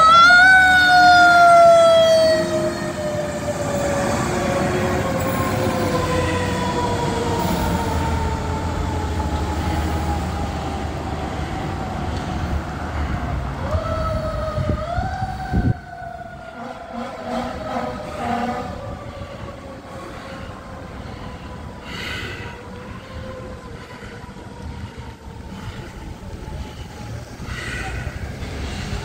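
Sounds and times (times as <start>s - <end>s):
truck engine rumble: 0.0s - 29.0s.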